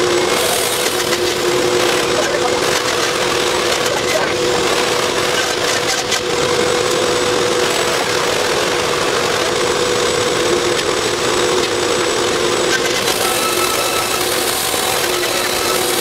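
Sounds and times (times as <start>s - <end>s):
shop machinery droning: 0.0s - 16.0s.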